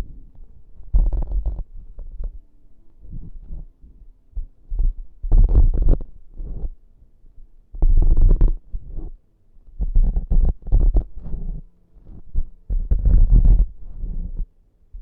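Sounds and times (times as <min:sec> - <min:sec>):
rubbing and scratching at microphone: 0:00.0 - 0:02.4, 0:03.0 - 0:06.8, 0:07.7 - 0:15.0.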